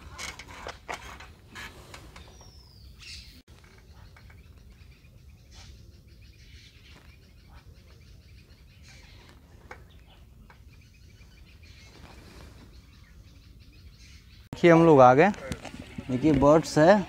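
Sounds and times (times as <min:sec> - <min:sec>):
birds chirping: 0:01.5 - 0:17.0.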